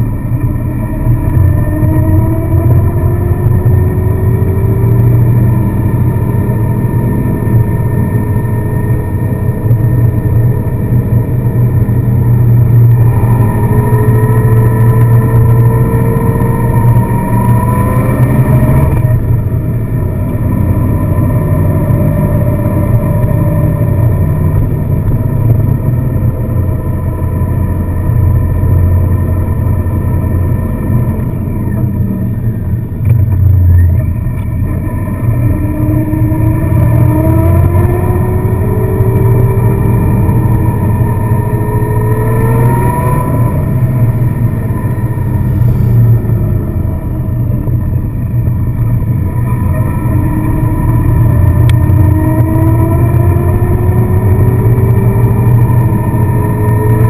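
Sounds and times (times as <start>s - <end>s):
car engine revving: 0.0s - 57.0s
road noise: 0.0s - 57.0s.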